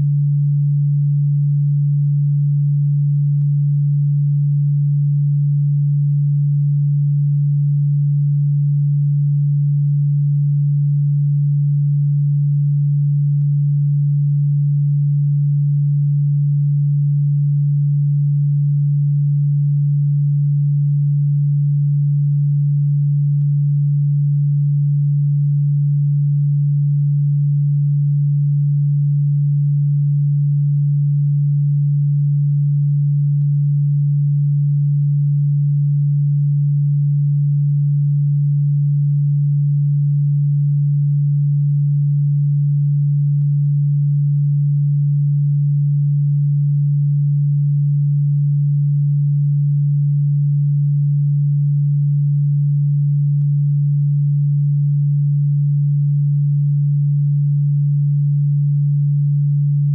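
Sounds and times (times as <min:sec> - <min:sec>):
low sine tone hum: 0:00.0 - 0:59.9.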